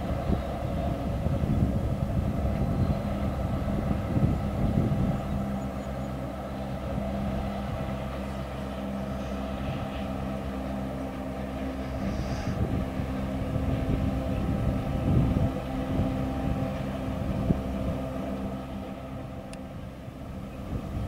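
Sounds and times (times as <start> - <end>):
locomotive engine drone: 0.0 - 21.0.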